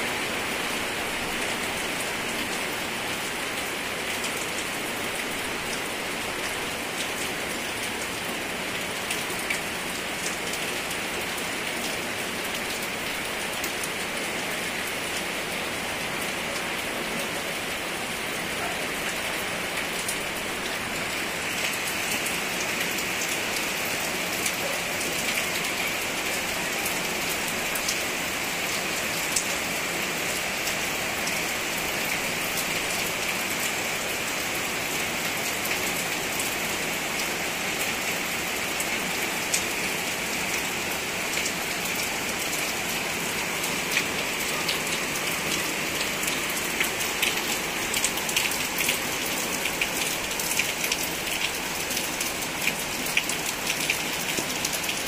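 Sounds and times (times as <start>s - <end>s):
rain on broad leaves: 0.0s - 55.0s.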